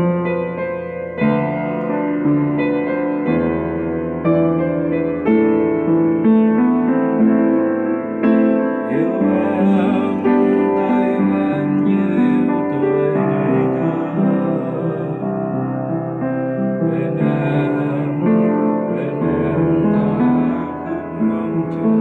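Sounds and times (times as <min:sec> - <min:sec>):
piano chords and melody: 0:00.0 - 0:22.0.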